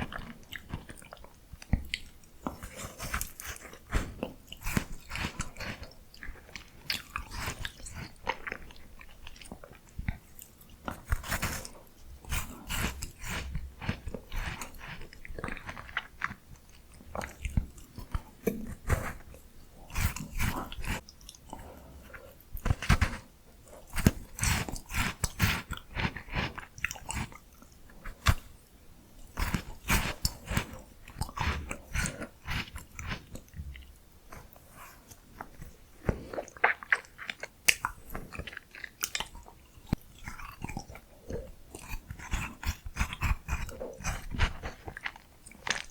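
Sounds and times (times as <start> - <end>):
biting and chewing ice cream: 0.0 - 45.9.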